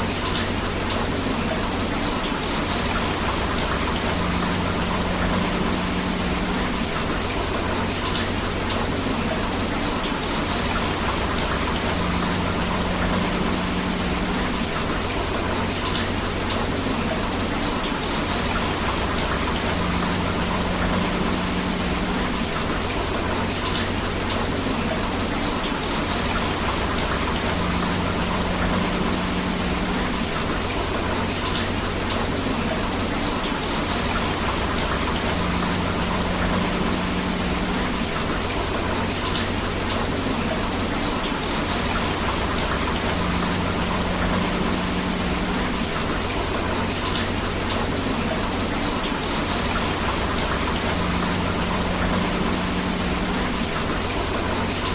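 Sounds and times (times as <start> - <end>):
river water running: 0.0 - 54.9
steady rain: 0.0 - 54.9.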